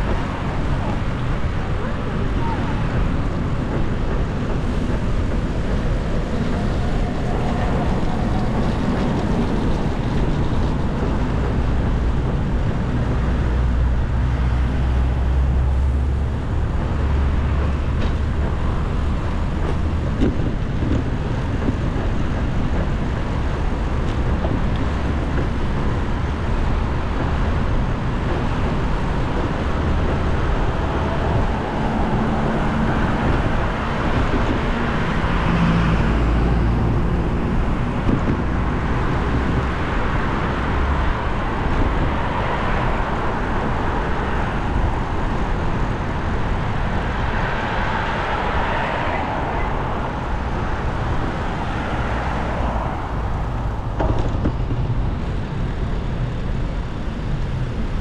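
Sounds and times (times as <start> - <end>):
road traffic: 0.0 - 58.0
wind rumble on microphone: 0.0 - 58.0.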